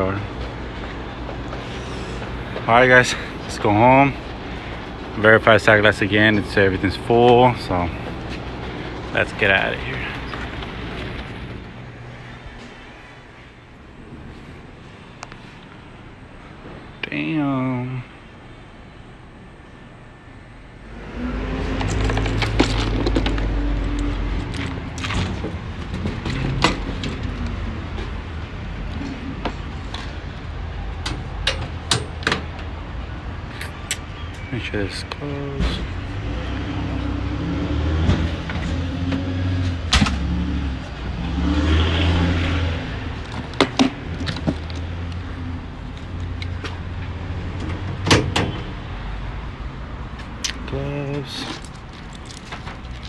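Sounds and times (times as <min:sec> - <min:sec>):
low traffic rumble: 0:00.0 - 0:53.0.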